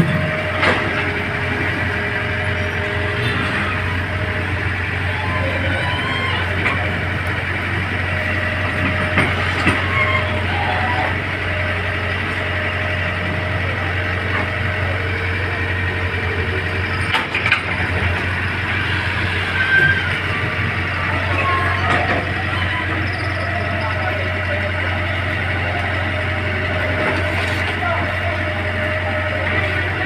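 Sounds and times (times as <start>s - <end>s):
heavy machinery engine humming: 0.0s - 30.0s.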